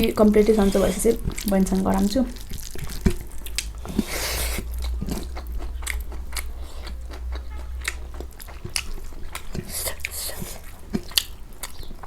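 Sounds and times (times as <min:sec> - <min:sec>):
chewing and biting food: 0:00.0 - 0:12.0
steady low hum: 0:00.0 - 0:12.0.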